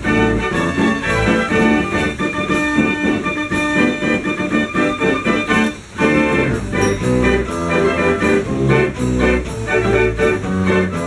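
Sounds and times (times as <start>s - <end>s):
mechanical organ playing a gallop: 0.0s - 11.0s.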